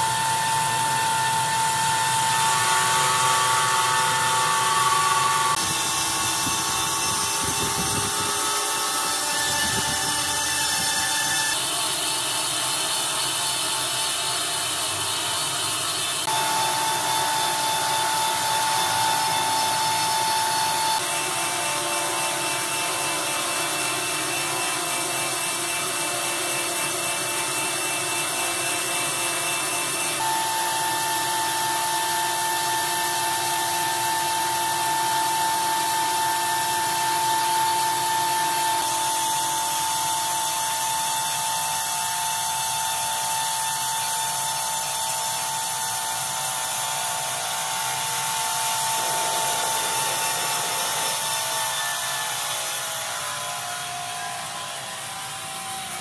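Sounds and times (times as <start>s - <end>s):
power tool grinding wood: 0.0s - 56.0s.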